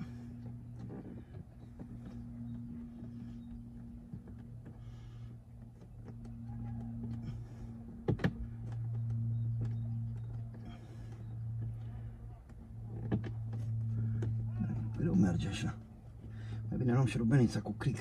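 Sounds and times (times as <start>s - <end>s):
hands clicking and scraping dashboard: 0.0s - 18.0s
steady low hum: 0.0s - 18.0s.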